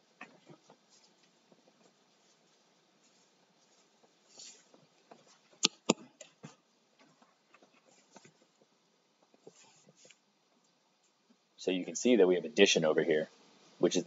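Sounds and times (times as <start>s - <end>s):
soft rustles: 0.0s - 12.2s.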